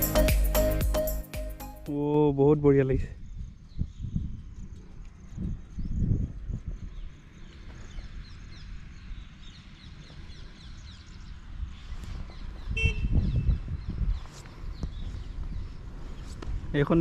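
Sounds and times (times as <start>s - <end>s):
birds chirping: 1.9s - 17.0s.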